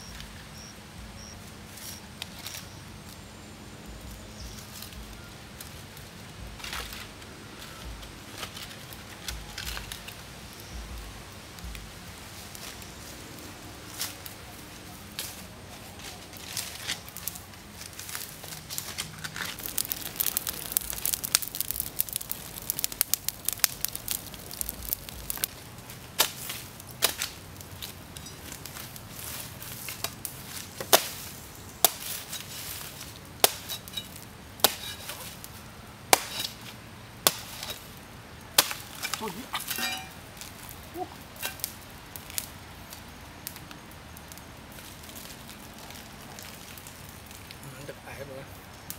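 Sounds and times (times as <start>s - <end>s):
crackling and rustling: 0.0s - 48.9s.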